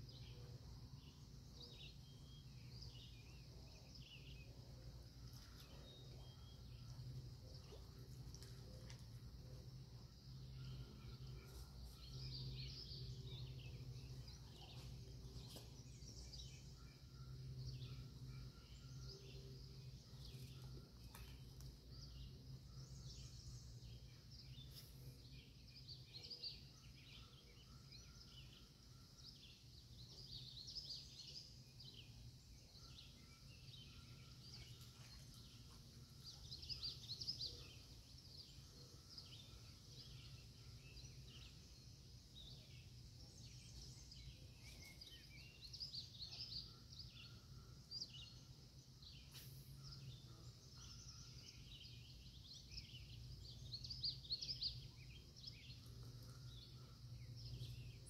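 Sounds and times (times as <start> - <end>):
faint birdsong chirps and trills: 0.0 - 58.0
steady low hum: 0.0 - 58.0.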